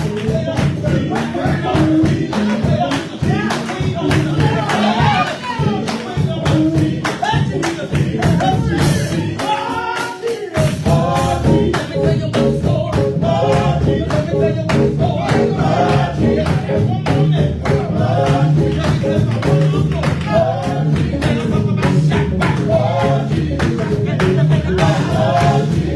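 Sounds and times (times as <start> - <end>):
gospel group singing with band: 0.0 - 25.9
steady percussion beat: 0.0 - 25.9.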